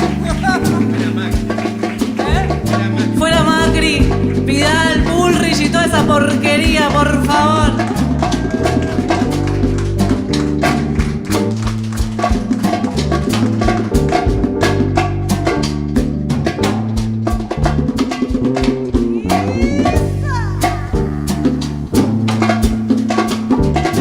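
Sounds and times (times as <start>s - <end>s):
drums and percussion beat: 0.0s - 24.0s
latin dance band playing: 0.0s - 24.0s.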